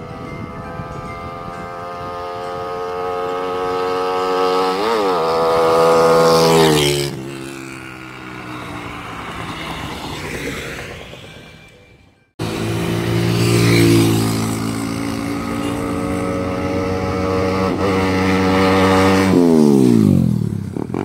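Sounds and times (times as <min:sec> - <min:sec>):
motorcycle passing by: 0:00.0 - 0:11.8, 0:12.4 - 0:21.0.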